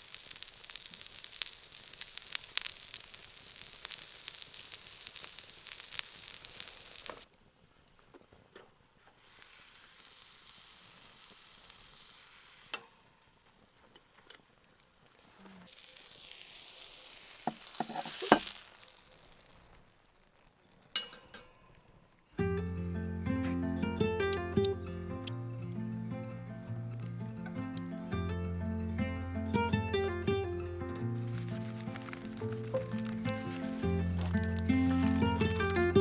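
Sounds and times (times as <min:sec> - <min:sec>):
beef sizzling: 0:00.0 - 0:07.3, 0:09.2 - 0:21.2, 0:22.6 - 0:36.0.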